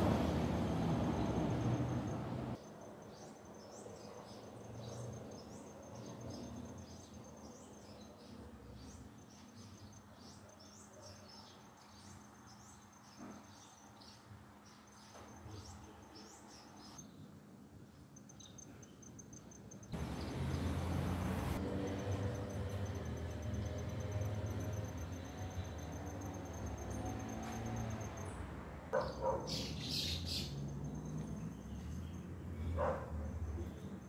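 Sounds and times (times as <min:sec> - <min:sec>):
small birds chirping: 0:01.2 - 0:17.4, 0:18.0 - 0:26.8, 0:29.0 - 0:34.0.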